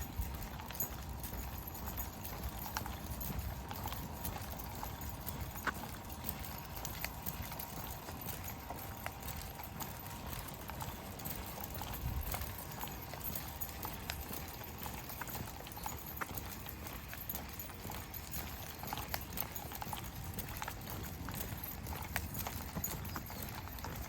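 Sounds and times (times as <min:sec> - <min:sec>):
footsteps on a trail: 0:00.0 - 0:24.0.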